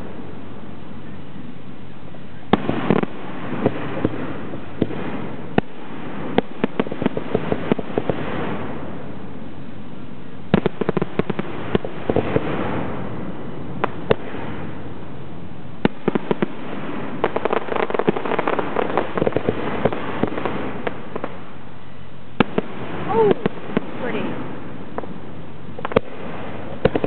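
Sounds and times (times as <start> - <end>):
fireworks crackling: 0.0 - 27.0
fireworks bangs: 2.4 - 9.4, 10.5 - 27.0.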